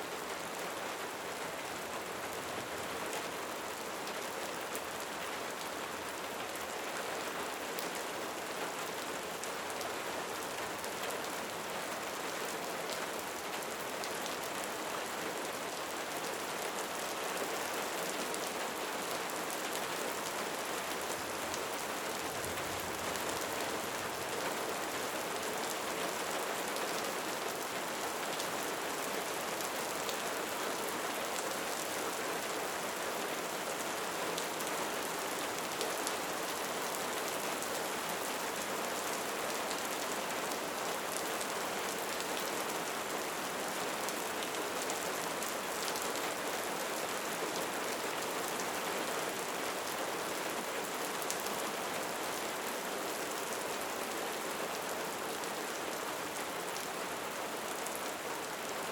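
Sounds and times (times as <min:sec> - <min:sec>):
rain falling steadily: 0:00.0 - 0:58.9.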